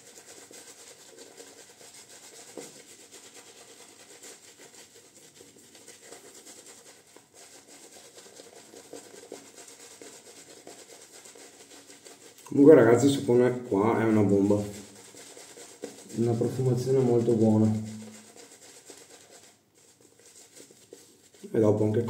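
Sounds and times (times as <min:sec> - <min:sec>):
brush rubbing on beard: 0:00.0 - 0:22.0.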